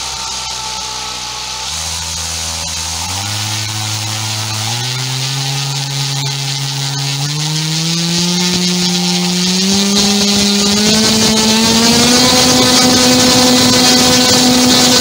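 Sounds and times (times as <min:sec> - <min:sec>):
electric motor spinning propeller: 0:00.0 - 0:15.0.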